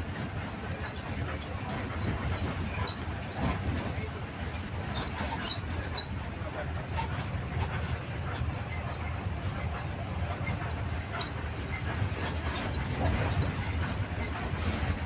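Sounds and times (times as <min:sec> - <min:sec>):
road and engine rumble in cabin: 0:00.0 - 0:15.0.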